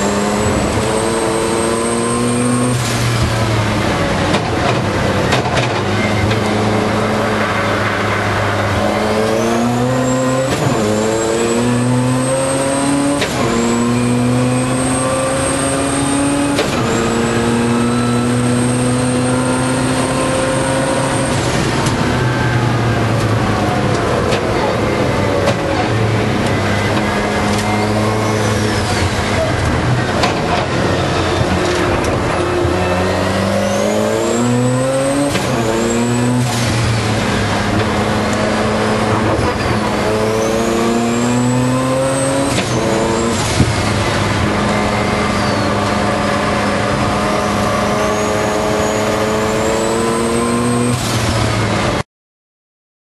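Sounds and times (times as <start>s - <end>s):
race car engine at full throttle: 0.0s - 52.0s.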